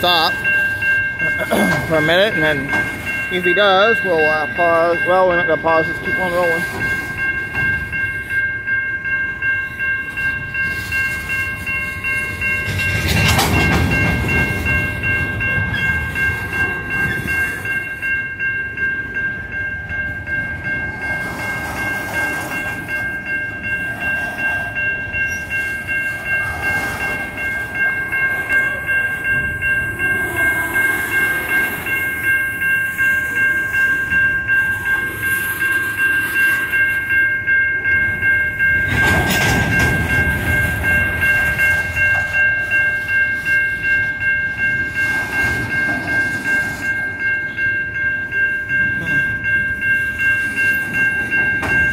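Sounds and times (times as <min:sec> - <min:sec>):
electronic crossing bell ringing: 0:00.0 - 0:51.9
rail cars rumbling past: 0:00.0 - 0:51.9.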